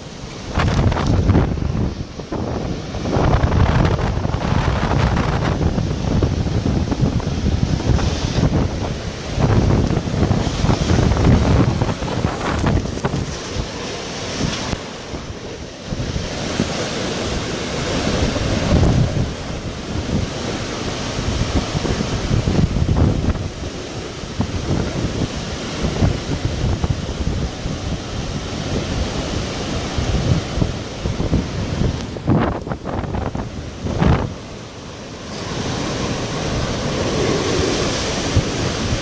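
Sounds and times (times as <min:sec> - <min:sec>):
strong wind buffeting microphone: 0:00.0 - 0:39.0.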